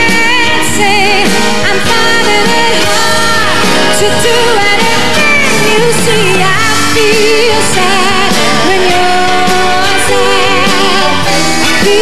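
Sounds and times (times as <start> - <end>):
band accompaniment: 0.0 - 12.0
woman singing pop ballad: 0.0 - 12.0.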